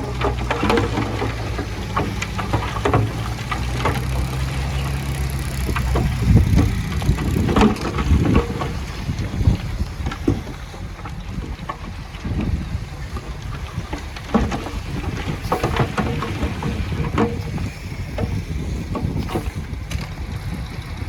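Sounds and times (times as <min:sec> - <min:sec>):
knocks and clatter: 0:00.0 - 0:20.4
heavy diesel engine running: 0:00.0 - 0:21.0.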